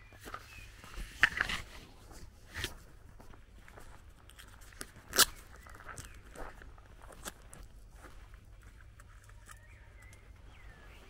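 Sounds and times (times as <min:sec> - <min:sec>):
footsteps crunching on gravel: 0:00.0 - 0:11.0.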